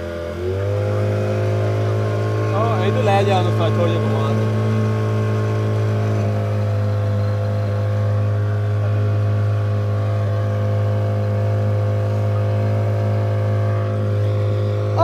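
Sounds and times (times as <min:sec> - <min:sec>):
motorboat engine droning: 0:00.0 - 0:15.0.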